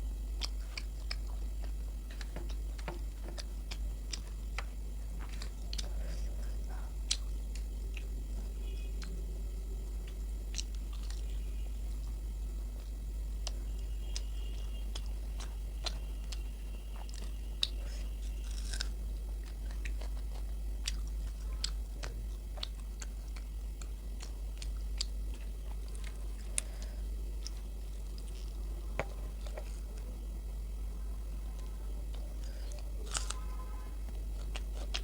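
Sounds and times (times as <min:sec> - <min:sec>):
chewing and biting food: 0:00.4 - 0:06.0, 0:07.0 - 0:09.2, 0:09.9 - 0:30.1, 0:31.6 - 0:33.4, 0:34.1 - 0:35.0.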